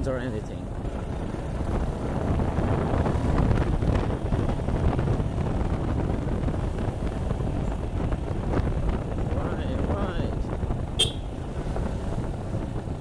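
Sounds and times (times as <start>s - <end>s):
motorcycle engine cruising: 0.0s - 13.0s
wind rushing on microphone: 0.0s - 13.0s.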